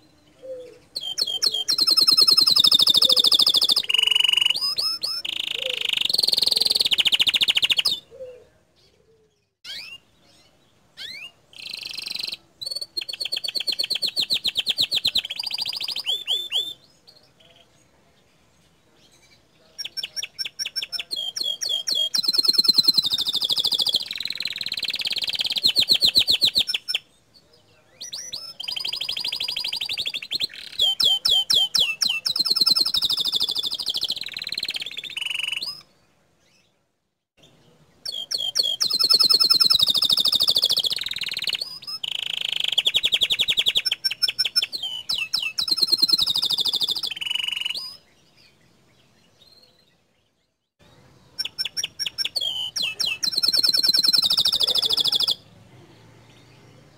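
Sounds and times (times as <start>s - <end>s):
canary singing trills: 0.0s - 36.7s, 37.4s - 56.9s.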